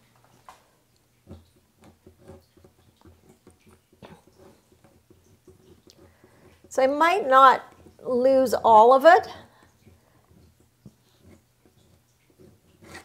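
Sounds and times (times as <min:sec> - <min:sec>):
scraper spreading wax paint: 0:01.2 - 0:13.0.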